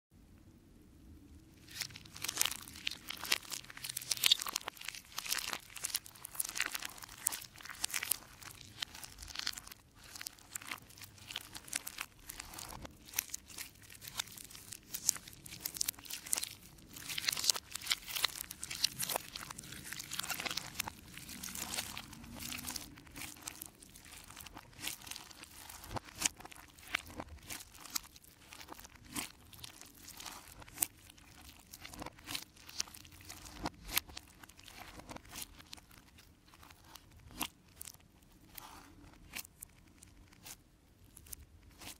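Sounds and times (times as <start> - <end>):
slime crackling and popping: 1.5 - 41.9.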